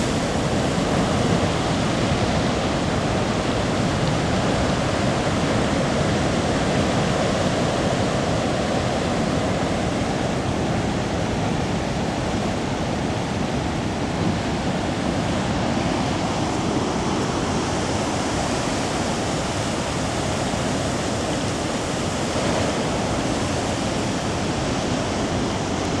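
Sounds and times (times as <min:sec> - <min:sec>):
surf waves roaring on rocks: 0:00.0 - 0:26.0.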